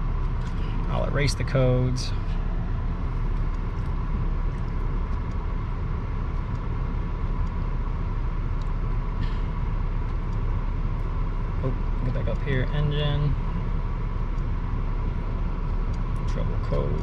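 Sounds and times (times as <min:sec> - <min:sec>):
car engine idling: 0:00.0 - 0:17.0
faint steady whine: 0:00.0 - 0:17.0.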